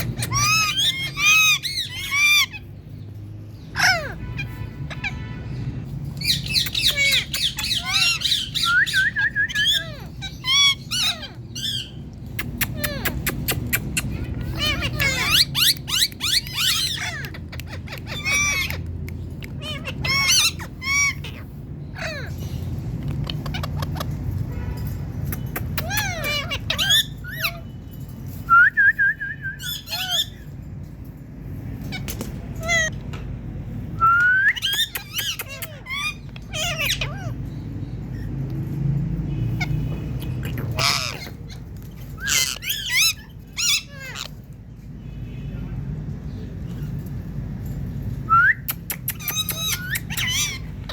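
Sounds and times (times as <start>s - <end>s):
parakeet squawking: 0.0s - 27.8s, 29.6s - 30.6s, 31.7s - 33.6s, 34.5s - 47.4s, 48.8s - 50.9s.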